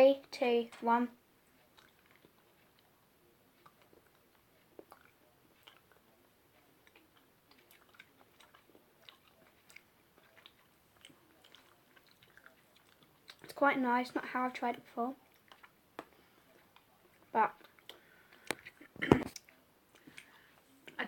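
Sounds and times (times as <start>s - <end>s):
people chewing: 1.4s - 13.6s, 14.2s - 21.0s.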